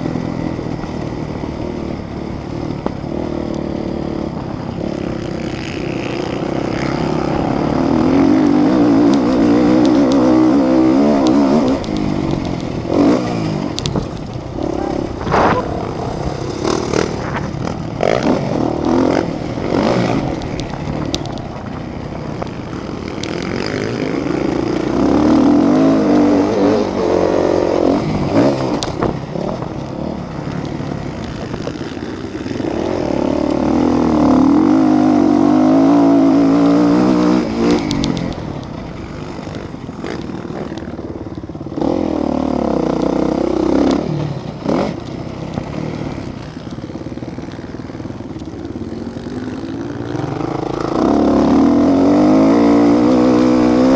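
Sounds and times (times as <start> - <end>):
motocross motorcycles revving: 0.0 - 53.9.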